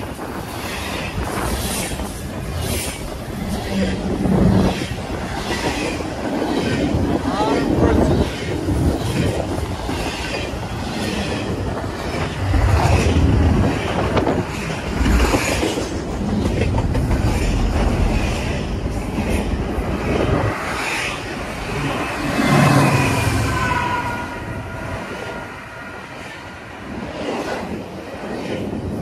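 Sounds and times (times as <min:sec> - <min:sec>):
freight train wheels clattering: 0:00.0 - 0:24.1.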